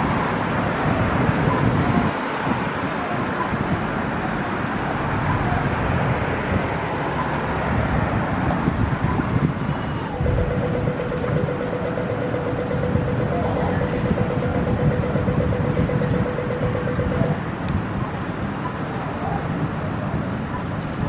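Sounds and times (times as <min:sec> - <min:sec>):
passing road vehicles rumbling: 0:00.0 - 0:21.0.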